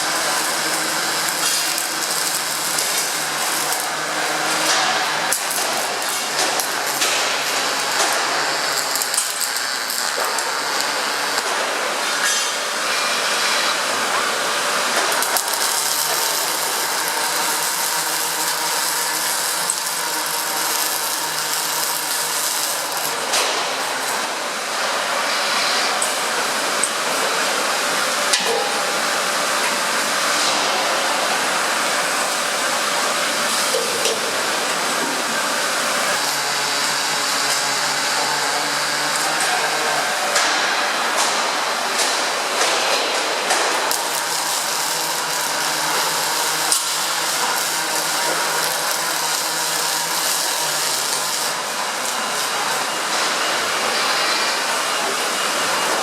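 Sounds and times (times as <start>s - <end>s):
welding crackling hiss: 0.0s - 56.0s.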